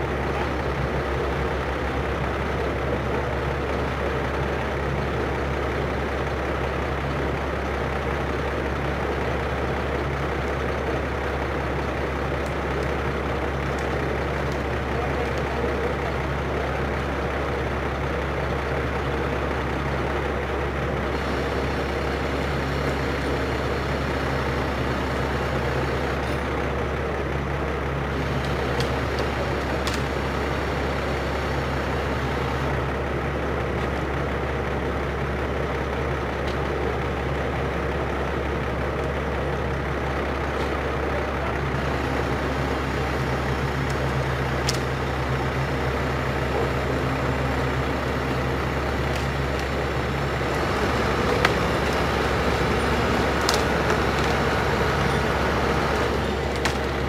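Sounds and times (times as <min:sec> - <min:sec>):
crane engine running: 0:00.0 - 0:57.0.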